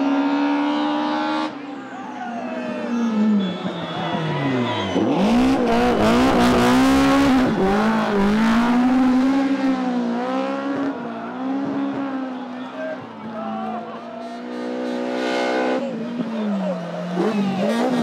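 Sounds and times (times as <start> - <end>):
rally car engine accelerating: 0.0 - 1.8, 2.4 - 12.8, 14.2 - 18.0.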